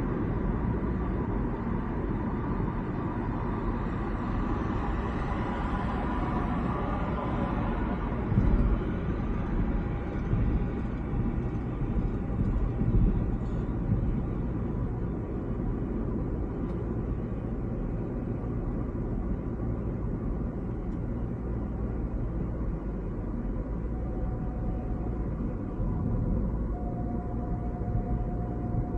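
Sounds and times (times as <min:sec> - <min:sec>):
road noise: 0:00.0 - 0:28.9
wind noise: 0:00.0 - 0:28.9.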